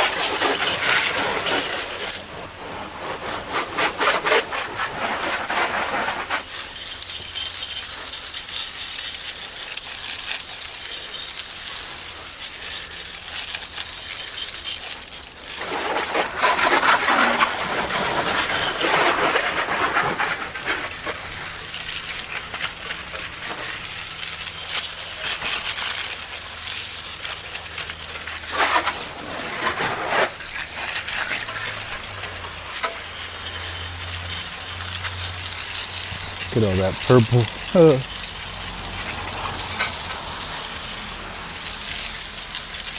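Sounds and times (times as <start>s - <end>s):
water spraying: 0.0s - 42.9s.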